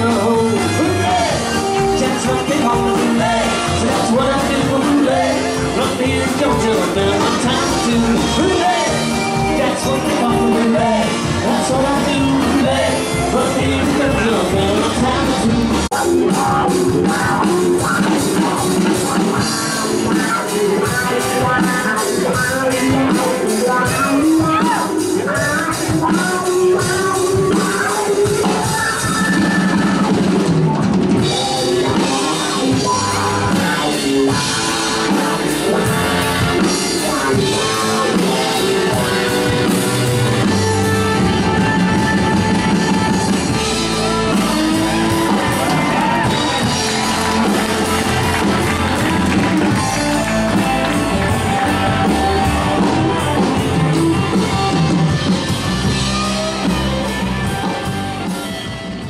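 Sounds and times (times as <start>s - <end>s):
drum kit: 0.0s - 59.0s
guitar: 0.0s - 59.0s
upright bass: 0.0s - 59.0s.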